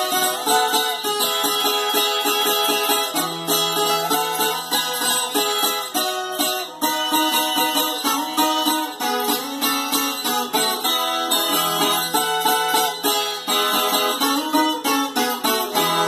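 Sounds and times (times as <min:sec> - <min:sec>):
plucked guitar notes: 0:00.0 - 0:16.0.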